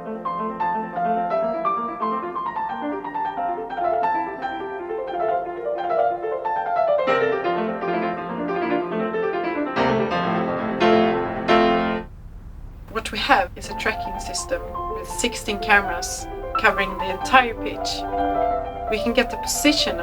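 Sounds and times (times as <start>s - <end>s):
piano music: 0.0s - 12.2s, 12.9s - 20.0s.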